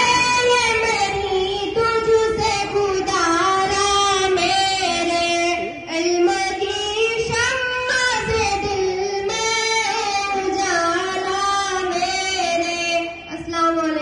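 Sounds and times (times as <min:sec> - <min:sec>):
young female voices singing: 0:00.0 - 0:14.0.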